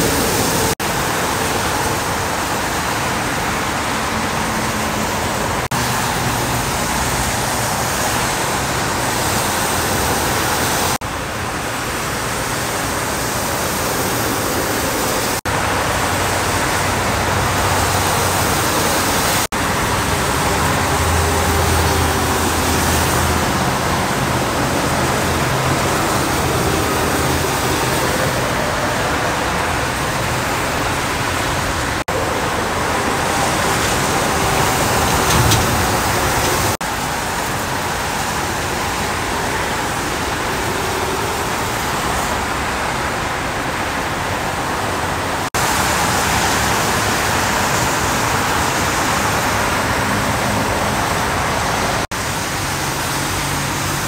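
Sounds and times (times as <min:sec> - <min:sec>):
passing engines: 0:00.0 - 0:54.0
tyres hissing on wet road: 0:00.0 - 0:54.0.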